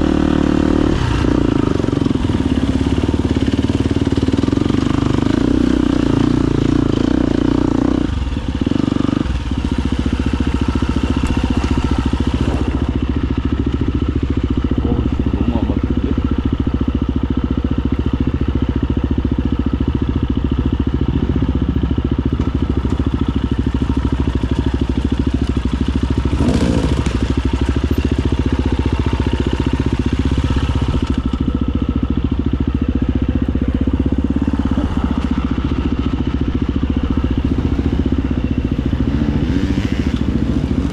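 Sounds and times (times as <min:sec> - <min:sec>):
motorcycle engine under throttle: 0:00.0 - 0:40.9.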